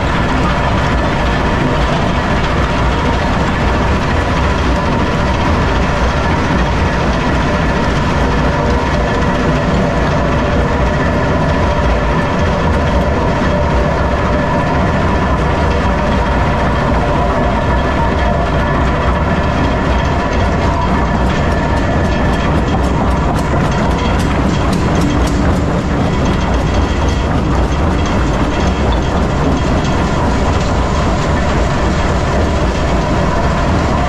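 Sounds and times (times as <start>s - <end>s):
rock crusher rumble and clatter: 0.0s - 34.0s.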